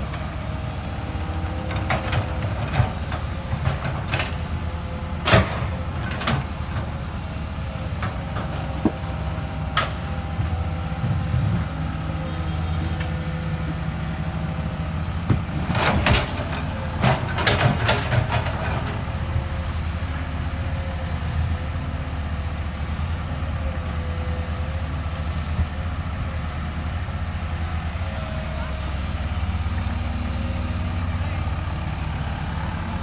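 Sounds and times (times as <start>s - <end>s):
excavator diesel engine droning: 0.0s - 33.0s.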